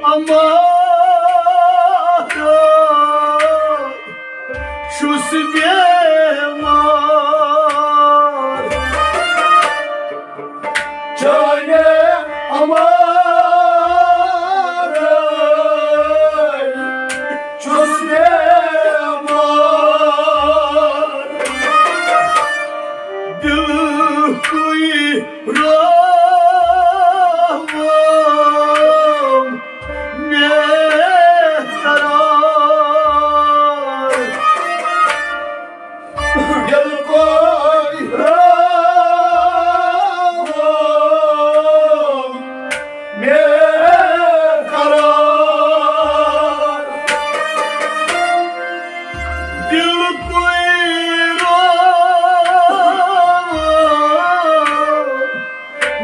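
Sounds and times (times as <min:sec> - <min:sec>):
man singing: 0:00.0 - 0:09.6, 0:11.0 - 0:35.1, 0:36.2 - 0:56.0
bowed sarangi: 0:00.0 - 0:56.0
harmonium: 0:00.0 - 0:56.0
plucked rabab: 0:07.6 - 0:33.5, 0:34.1 - 0:40.7, 0:41.4 - 0:56.0.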